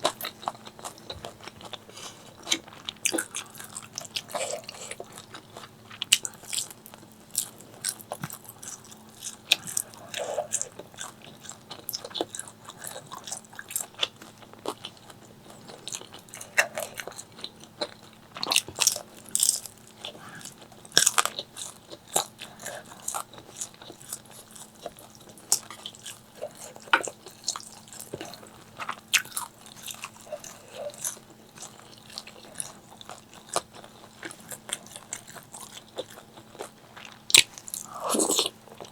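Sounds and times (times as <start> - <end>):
crunching fried chicken: 0.0 - 38.9
soft chewing: 0.0 - 38.9.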